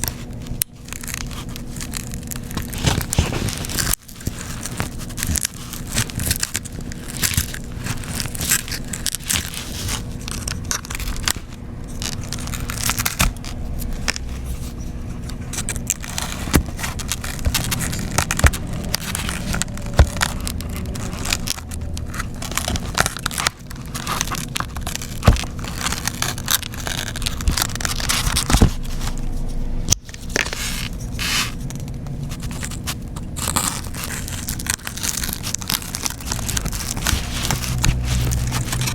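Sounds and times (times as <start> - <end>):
scraping and crackling of broken glass: 0.0 - 13.2, 13.8 - 29.2, 30.0 - 38.9.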